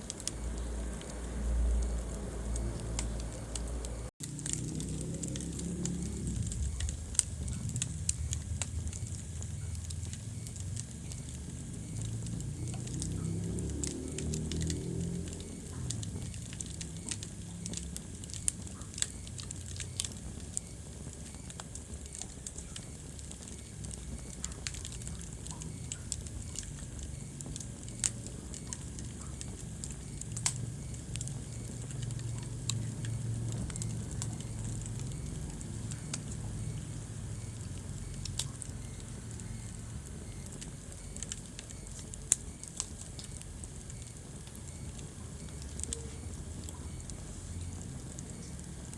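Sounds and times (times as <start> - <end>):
low steady rumble: 0.0 - 48.9
wood fire crackling: 0.0 - 48.9.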